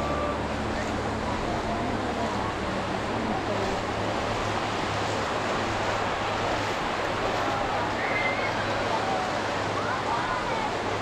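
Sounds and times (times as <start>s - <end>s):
faint distant voices: 0.0s - 11.0s
surf washing onto beach: 0.0s - 11.0s.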